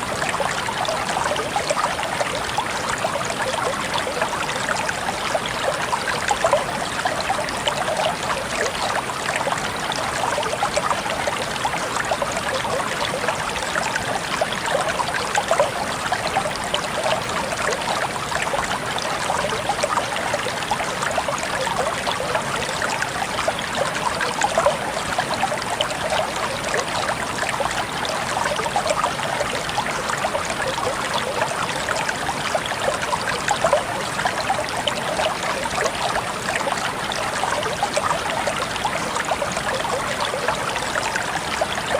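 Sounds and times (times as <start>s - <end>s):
water trickling and splashing: 0.0s - 41.9s.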